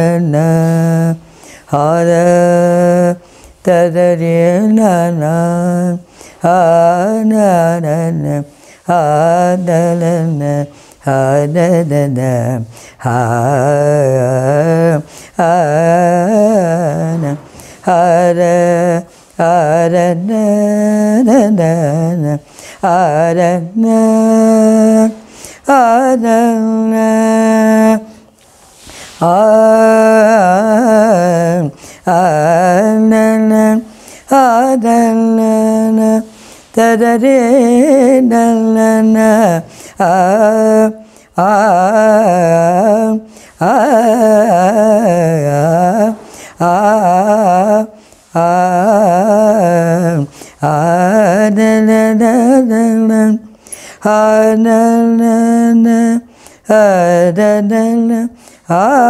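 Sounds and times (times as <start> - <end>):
woman singing without words: 0.0 - 59.0.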